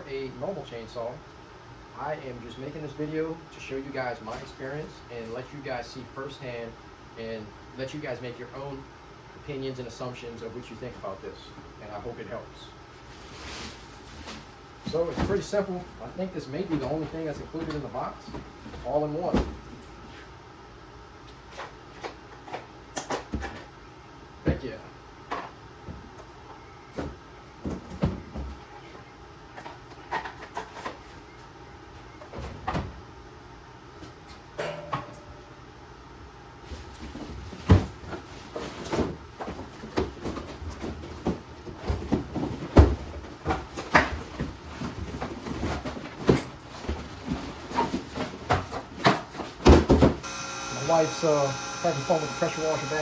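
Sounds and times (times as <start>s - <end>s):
steady background noise: 0.0s - 53.0s.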